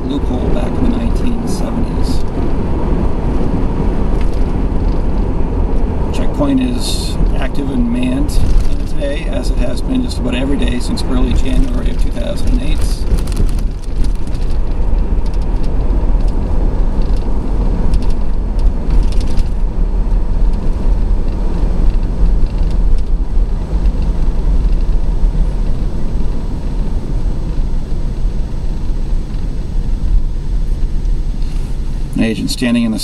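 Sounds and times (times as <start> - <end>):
truck engine and tyre rumble: 0.0 - 33.0.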